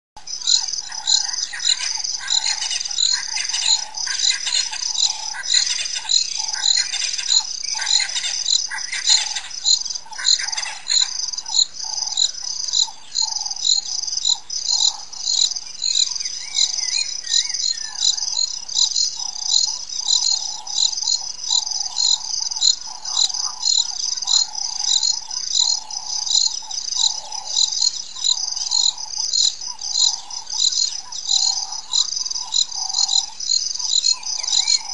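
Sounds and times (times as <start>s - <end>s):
high pulsing insect call: 0.2s - 34.9s.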